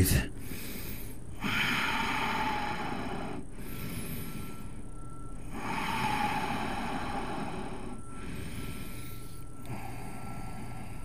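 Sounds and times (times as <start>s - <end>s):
steady low rumble: 0.0s - 11.0s
person breathing deeply: 0.4s - 11.0s.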